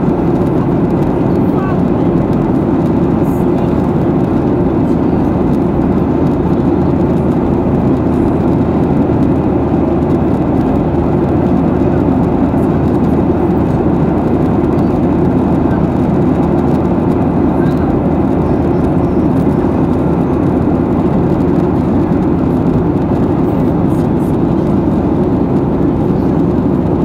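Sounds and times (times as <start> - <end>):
jet engine cabin roar: 0.0 - 27.0.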